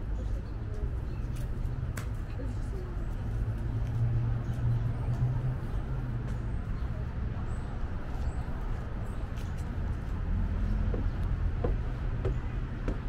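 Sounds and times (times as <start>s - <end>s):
faint voices: 0.0s - 13.0s
traffic hum: 0.0s - 13.0s.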